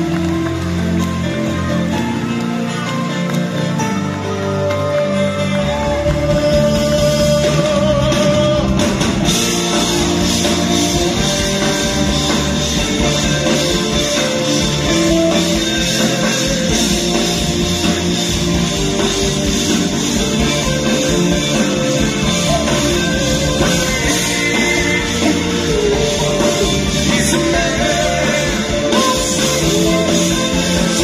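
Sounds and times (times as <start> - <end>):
live band playing upbeat music: 0.0 - 31.0
trumpet and saxophone: 1.3 - 31.0
drums and cymbals: 5.7 - 31.0.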